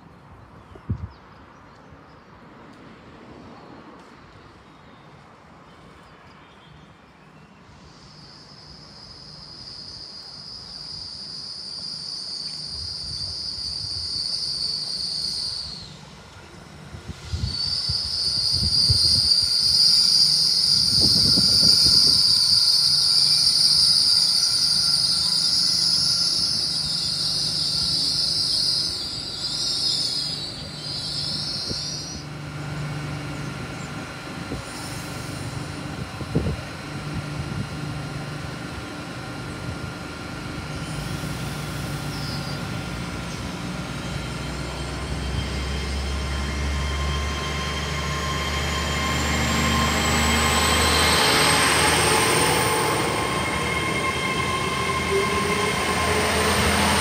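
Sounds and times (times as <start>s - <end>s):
low train hum: 0.0s - 57.0s
high train squeal: 2.6s - 57.0s.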